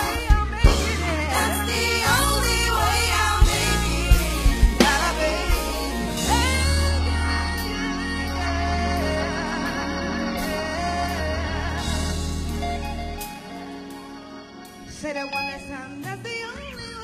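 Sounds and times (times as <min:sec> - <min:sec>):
person singing gospel: 0:00.0 - 0:16.6
band with heavy bass: 0:00.0 - 0:17.0.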